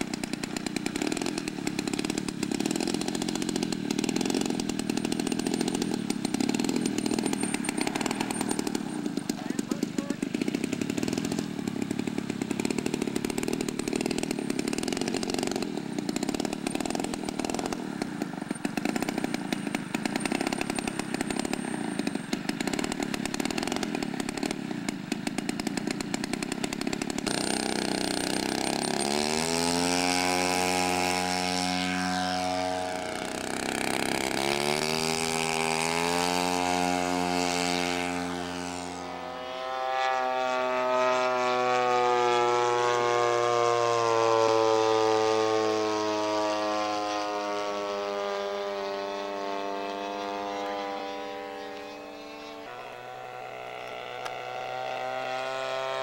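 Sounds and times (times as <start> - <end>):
model plane engine: 0.0 - 56.0.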